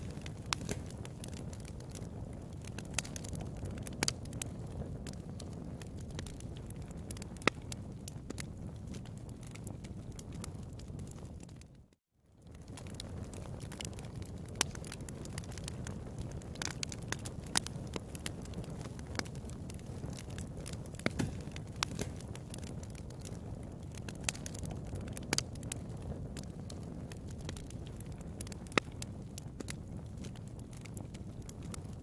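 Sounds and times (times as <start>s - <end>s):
fire crackling and popping: 0.0s - 32.0s
low noise of flames: 0.0s - 32.0s.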